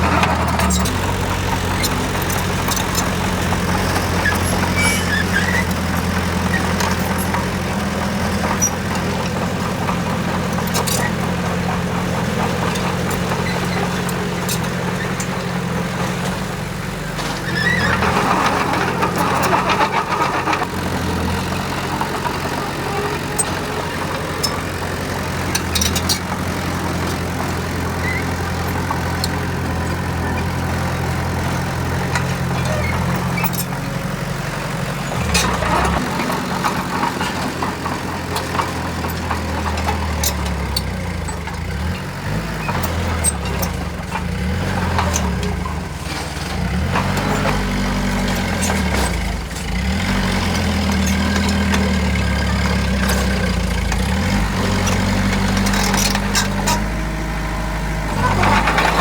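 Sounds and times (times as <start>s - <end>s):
construction machine diesel engine: 0.0s - 59.0s.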